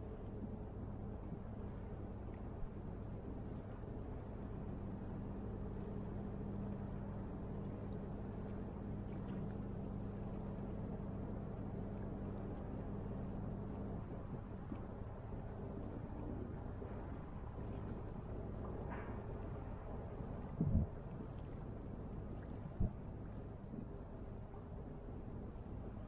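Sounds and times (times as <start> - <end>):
distant ship engine drone: 0.0 - 26.0.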